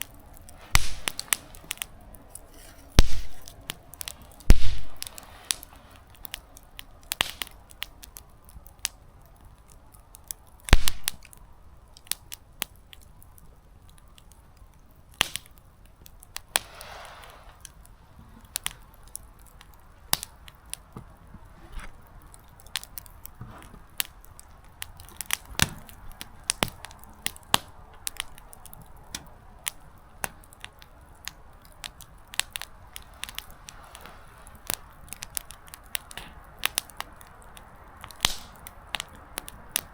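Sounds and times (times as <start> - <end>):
hiss from fire: 0.0 - 14.4, 15.0 - 39.9
campfire crackling: 0.0 - 39.9
sharp pops from burning wood: 0.0 - 39.9.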